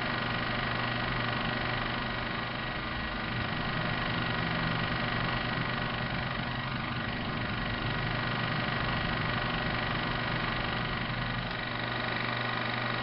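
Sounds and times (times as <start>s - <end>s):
steady mechanical hum with hiss: 0.0s - 13.0s.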